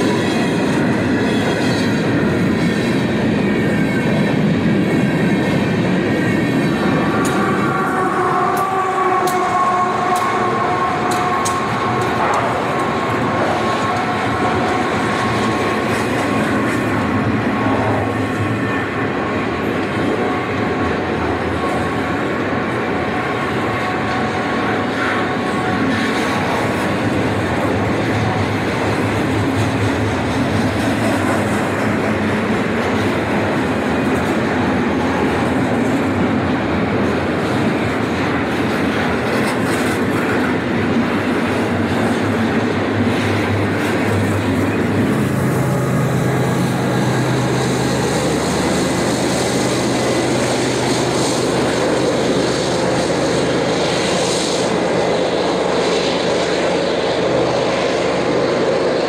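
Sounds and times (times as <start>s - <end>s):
diesel locomotive engines droning: 0.0s - 59.0s
train cars rumbling past: 0.0s - 59.0s.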